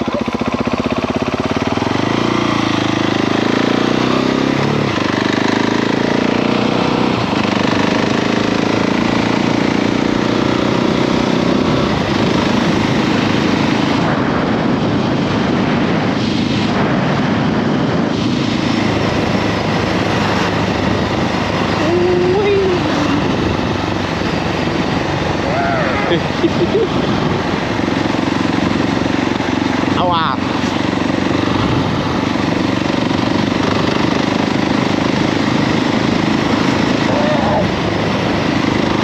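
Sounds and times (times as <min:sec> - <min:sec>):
motorcycle engine accelerating: 0:00.0 - 0:39.0
wind noise: 0:00.0 - 0:39.0.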